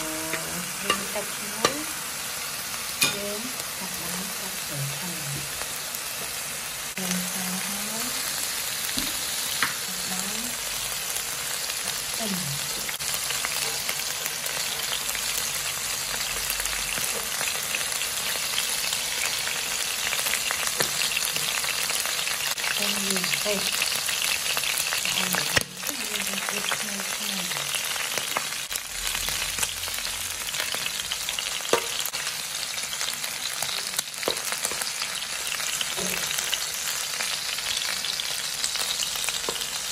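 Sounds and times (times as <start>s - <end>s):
oil sizzling in a wok: 0.0s - 39.9s.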